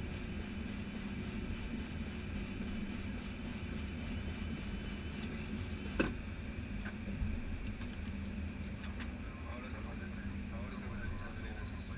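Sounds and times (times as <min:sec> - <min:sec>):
cockpit hum and rumble: 0:00.0 - 0:11.9.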